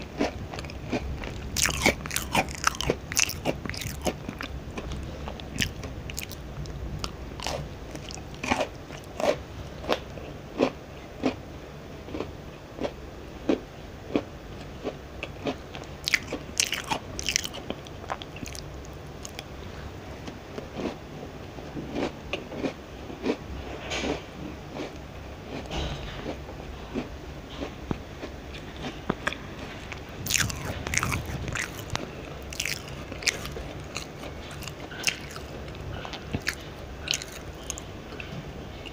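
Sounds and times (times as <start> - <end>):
chewing crisp cookies: 0.0 - 11.4, 12.0 - 38.9.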